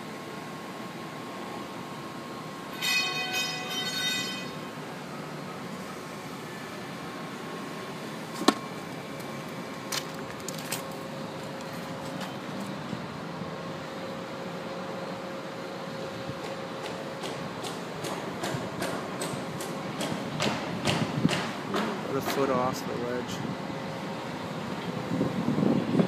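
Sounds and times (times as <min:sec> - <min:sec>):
distant city traffic: 0:00.0 - 0:26.0.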